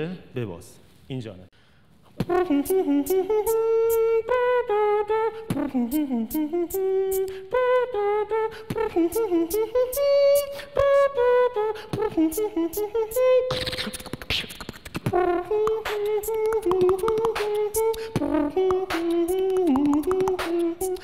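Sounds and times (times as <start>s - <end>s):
beatboxing: 2.1s - 21.0s
hummed melody: 2.2s - 21.0s.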